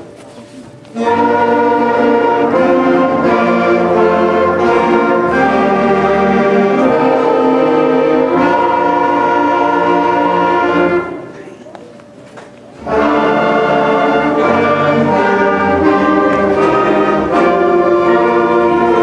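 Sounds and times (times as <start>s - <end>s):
concert band playing a chorale: 1.0s - 11.4s, 12.8s - 19.0s.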